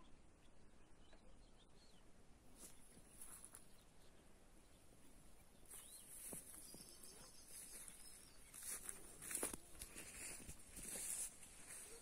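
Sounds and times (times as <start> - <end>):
faint bird chirps: 0.0 - 10.3.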